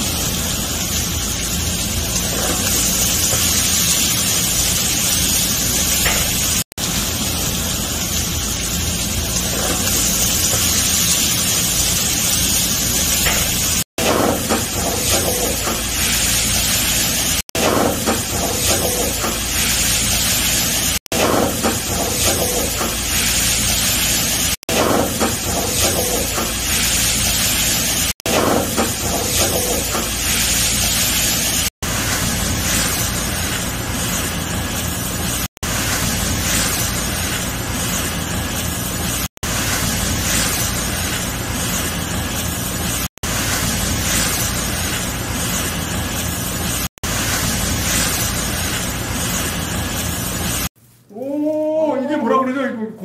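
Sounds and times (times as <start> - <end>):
peppers sizzling in oil: 0.0 - 51.0.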